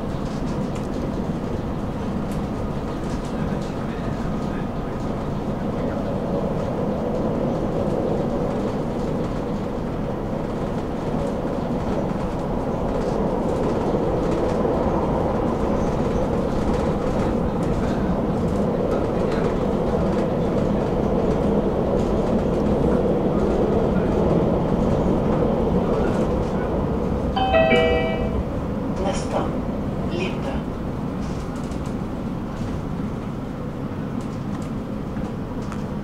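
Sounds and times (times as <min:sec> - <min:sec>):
tram hum: 0:00.0 - 0:36.0
tram wheels rumbling on rails: 0:00.0 - 0:36.0.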